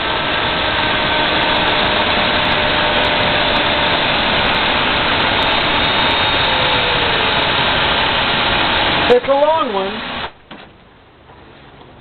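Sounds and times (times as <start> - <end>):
loud machine noise: 0.0 - 10.6.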